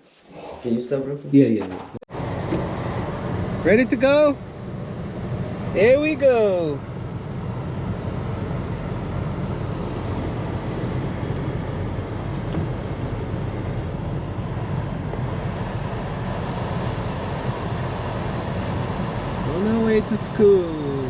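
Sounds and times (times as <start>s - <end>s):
car interior road rumble: 2.2s - 21.0s.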